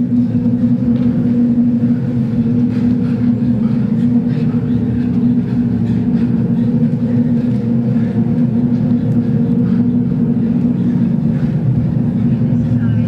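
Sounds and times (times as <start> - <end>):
low droning tones: 0.0 - 13.0
low rumble: 0.0 - 13.0.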